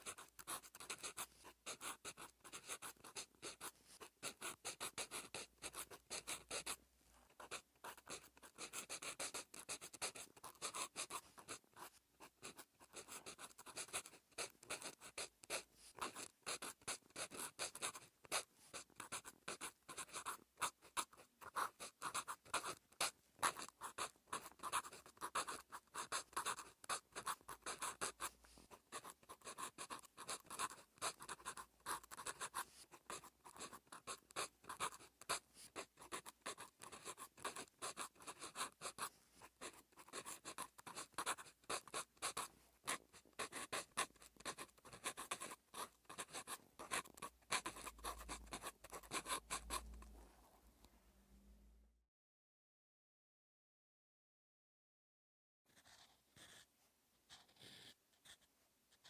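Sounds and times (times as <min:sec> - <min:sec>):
pen scratching on paper: 0:00.0 - 0:50.2, 0:55.7 - 0:56.7, 0:57.3 - 0:59.0.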